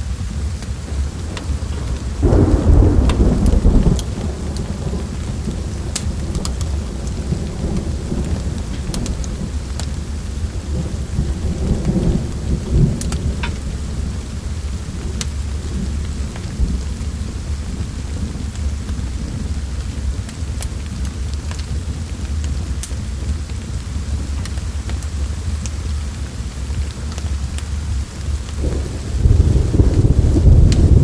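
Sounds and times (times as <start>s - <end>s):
low rumble of thunder: 0.0s - 31.0s
steady rain: 0.0s - 31.0s
wood fire crackling: 0.0s - 31.0s.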